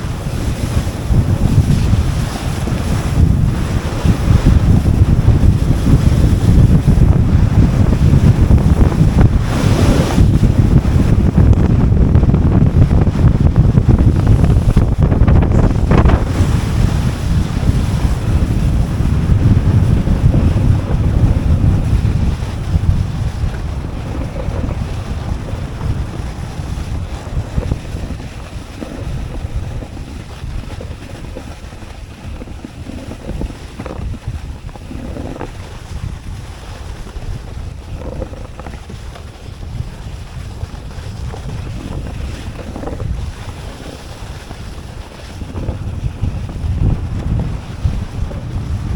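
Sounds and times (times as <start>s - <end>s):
snowboard scraping over snow: 0.0s - 48.9s
wind buffeting microphone: 0.0s - 48.9s.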